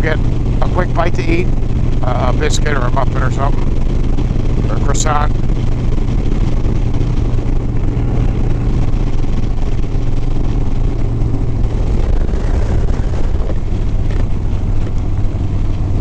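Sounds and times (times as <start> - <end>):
motorcycle engine running: 0.0 - 16.0
wind rush over microphone: 0.0 - 16.0.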